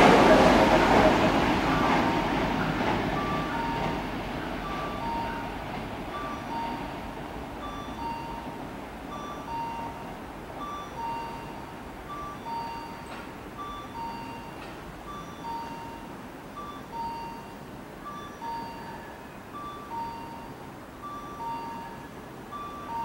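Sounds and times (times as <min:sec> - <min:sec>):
train rumble: 0:00.0 - 0:23.0
two-tone electronic warning signal: 0:01.7 - 0:23.0.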